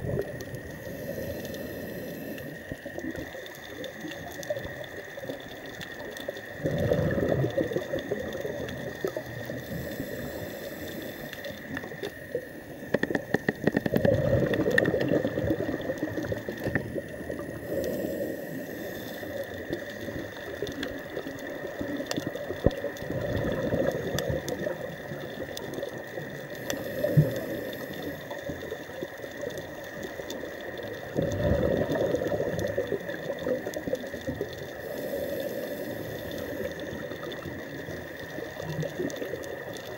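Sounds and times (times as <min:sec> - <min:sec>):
faint crackling clicks: 0:00.0 - 0:39.9
regulator bubbles underwater: 0:00.0 - 0:39.9.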